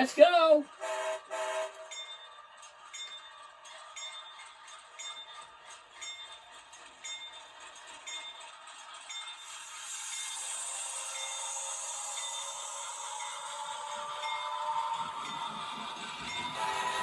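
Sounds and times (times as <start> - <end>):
model locomotive bell ringing: 1.6 - 17.0.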